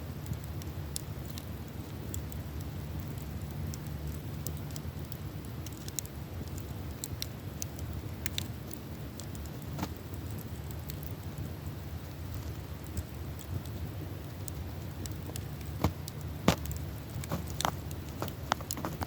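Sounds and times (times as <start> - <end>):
campfire crackling: 0.0 - 19.0
fire pops and snaps: 0.0 - 19.0.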